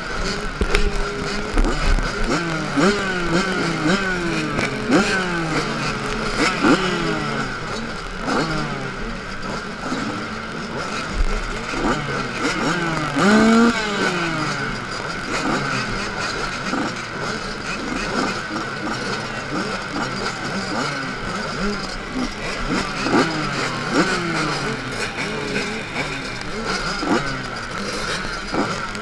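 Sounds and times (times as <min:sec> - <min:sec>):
motocross bikes revving: 0:00.0 - 0:29.0.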